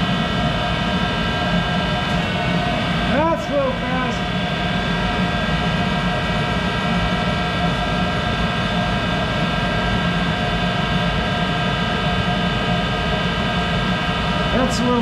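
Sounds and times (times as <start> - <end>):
lathe running with whine: 0.0 - 15.0.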